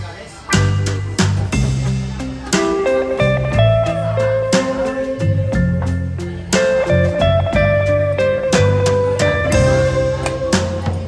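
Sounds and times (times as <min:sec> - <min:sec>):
guitar music over steady beat: 0:00.0 - 0:11.0.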